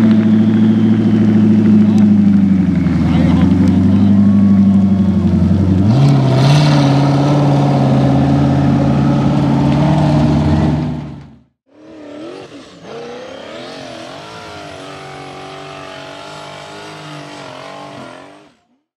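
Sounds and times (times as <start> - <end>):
buggy engine running hard: 0.0 - 18.8.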